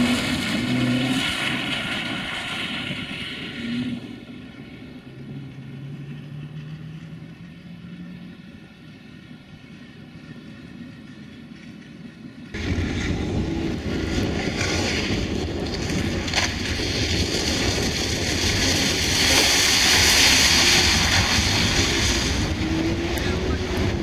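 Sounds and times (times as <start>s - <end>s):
rally car engine running: 0.0s - 24.0s.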